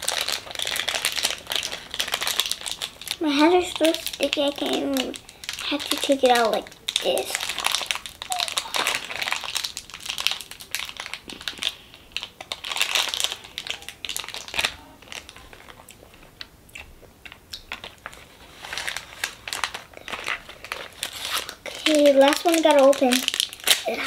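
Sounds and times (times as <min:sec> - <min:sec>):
plastic wrappers crinkling: 0:00.0 - 0:24.0.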